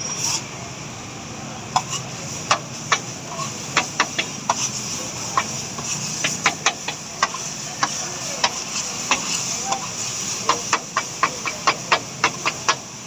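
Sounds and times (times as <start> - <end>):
food frying on a griddle: 0.1 - 13.0.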